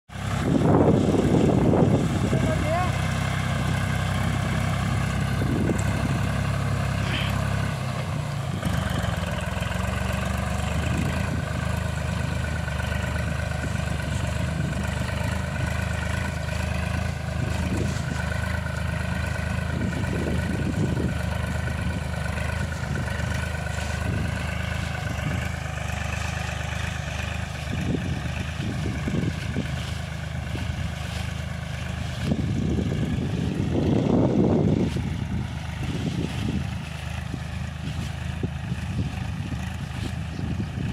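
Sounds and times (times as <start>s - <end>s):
tractor engine running: 0.1s - 40.9s.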